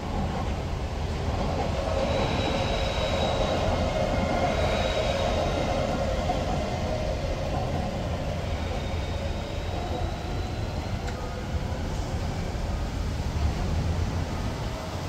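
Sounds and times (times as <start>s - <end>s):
electric train hum and whine: 0.0s - 15.0s
street traffic rumble: 0.0s - 15.0s.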